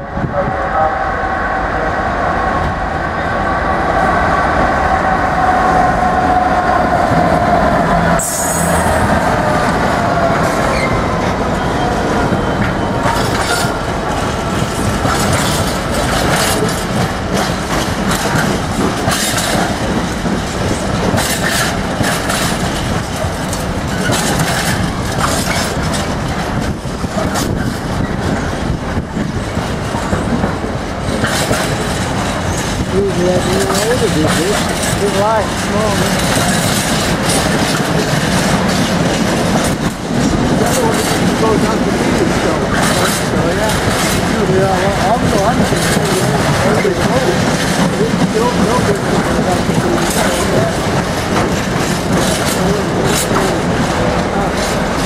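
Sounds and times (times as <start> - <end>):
diesel locomotive engine passing: 0.0 - 55.0
wheels clattering over rail joints: 8.1 - 55.0.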